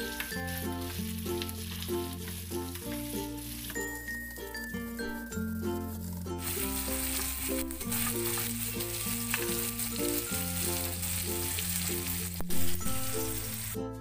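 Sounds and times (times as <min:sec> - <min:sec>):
vegetables sizzling in a pan: 0:00.0 - 0:13.8.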